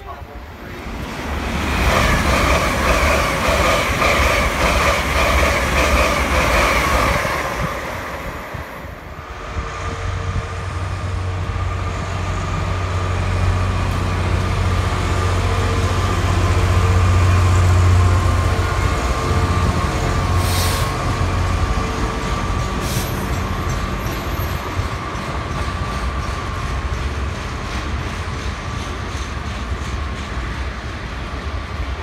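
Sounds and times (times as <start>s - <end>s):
diesel locomotive engine hum: 0.0s - 32.0s
train passing with wheel noise: 0.0s - 32.0s
train whine: 0.0s - 32.0s.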